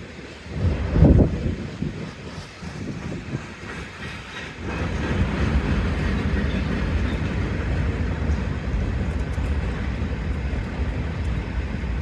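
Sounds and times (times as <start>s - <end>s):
train wheels rumbling and clacking: 0.0s - 12.0s.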